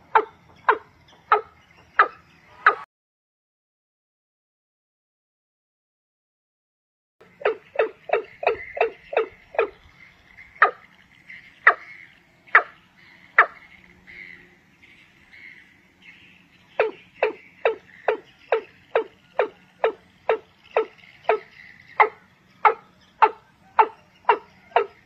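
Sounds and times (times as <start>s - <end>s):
clucking bird calls: 0.0s - 2.8s, 7.2s - 25.0s.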